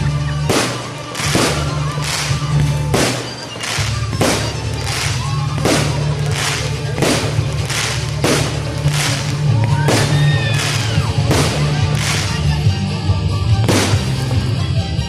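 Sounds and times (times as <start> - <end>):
loud music with bass line: 0.0 - 15.0
thumping beat: 0.5 - 14.8.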